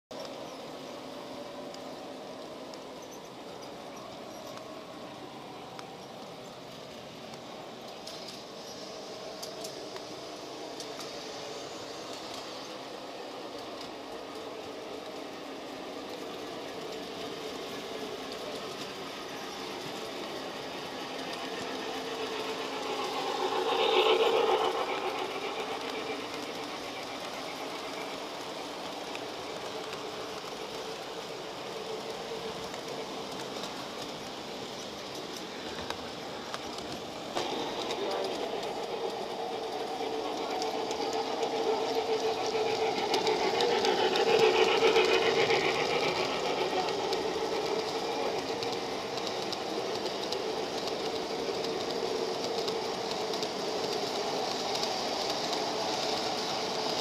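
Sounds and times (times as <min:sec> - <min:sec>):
model train wheels and motor: 0:00.1 - 0:57.0.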